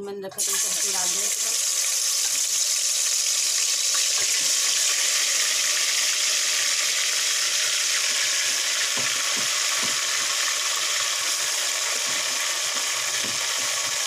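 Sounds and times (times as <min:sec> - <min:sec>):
chicken sizzling in oil: 0:00.4 - 0:14.0.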